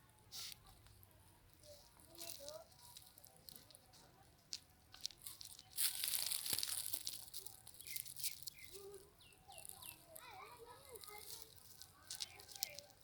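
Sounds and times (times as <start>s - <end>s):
crinkling rustling: 0.4s - 13.0s.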